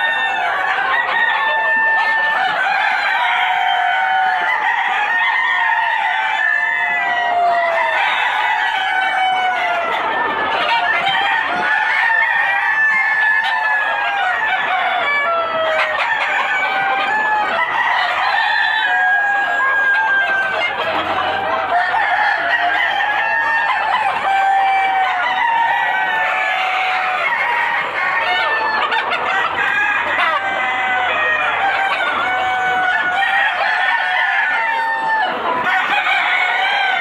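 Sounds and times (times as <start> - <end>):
chickens clucking and crowing: 0.0 - 37.0.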